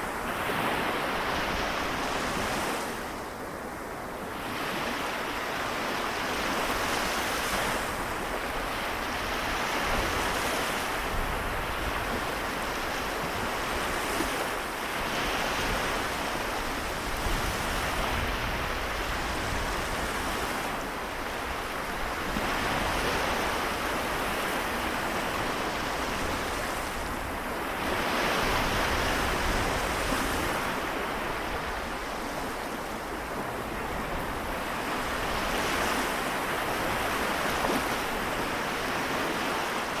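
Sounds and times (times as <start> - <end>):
small waves washing onto shore: 0.0 - 40.0.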